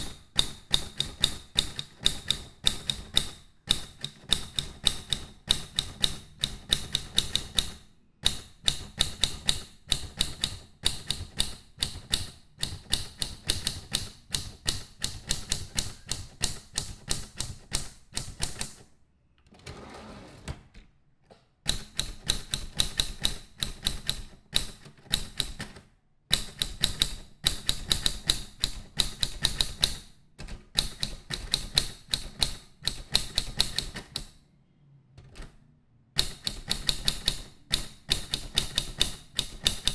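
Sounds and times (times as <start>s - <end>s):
typewriter keys striking: 0.0s - 18.8s, 21.7s - 34.3s, 36.2s - 39.9s.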